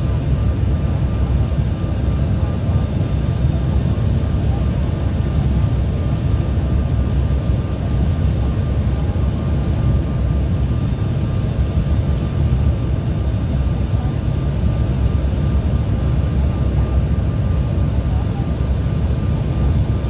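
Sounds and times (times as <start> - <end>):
airplane engine roar: 0.0 - 20.0
faint steady whine: 0.0 - 20.0.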